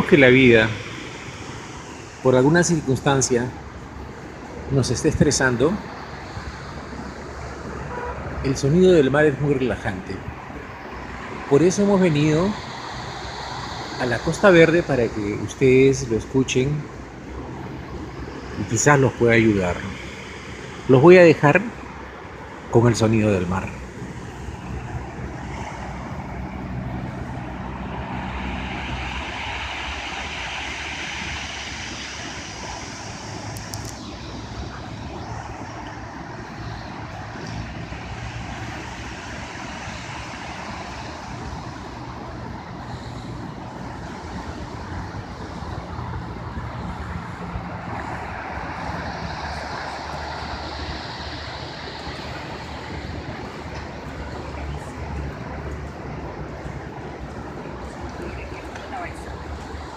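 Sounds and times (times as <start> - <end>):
waves breaking on shore: 0.0 - 59.9
steady low rumble: 8.8 - 59.9.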